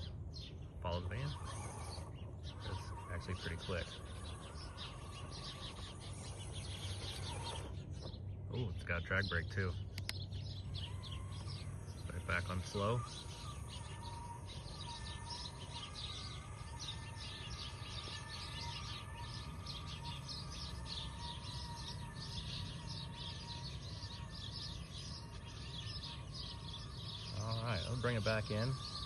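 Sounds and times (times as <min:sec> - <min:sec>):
birds chirping: 0:00.0 - 0:29.0
faint wavering whine: 0:00.0 - 0:29.0.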